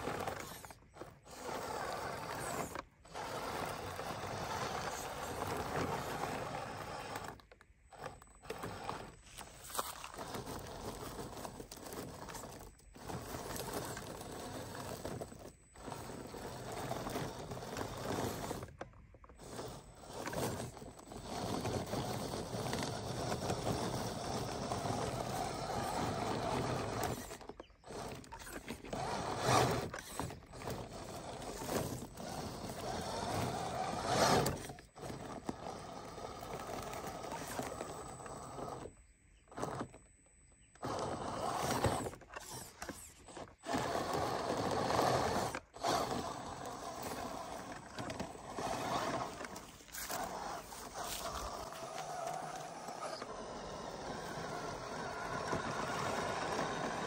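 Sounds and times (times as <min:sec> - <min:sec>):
tyres crunching over gravel: 0:00.0 - 0:40.0, 0:40.8 - 0:57.0
electric motor and drivetrain whirring: 0:00.0 - 0:57.0.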